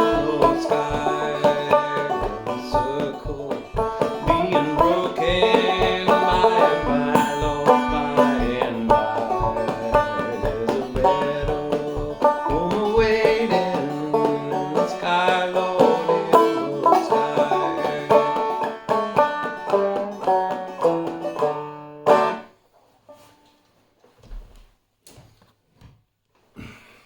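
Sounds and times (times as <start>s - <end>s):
banjo picking: 0.0s - 23.5s.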